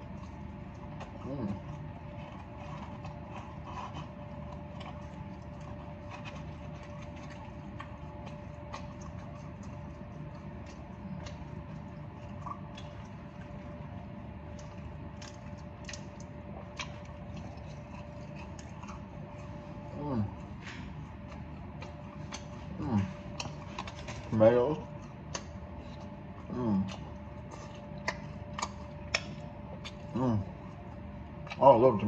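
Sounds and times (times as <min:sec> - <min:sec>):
faint steady hum: 0:00.0 - 0:32.0
person chewing fries: 0:00.0 - 0:32.0.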